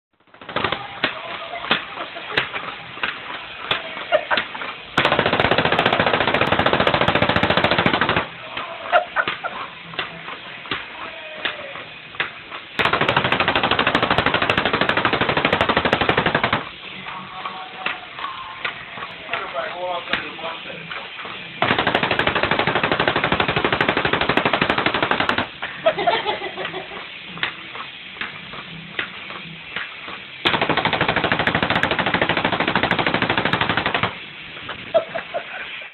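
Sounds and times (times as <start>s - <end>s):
toy machine-gun electronic rattle: 0.2s - 10.7s, 11.9s - 17.1s, 21.4s - 35.5s.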